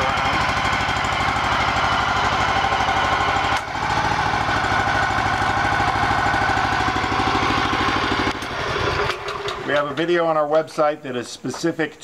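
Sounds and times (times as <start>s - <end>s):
walk-behind tractor engine running: 0.0s - 10.0s.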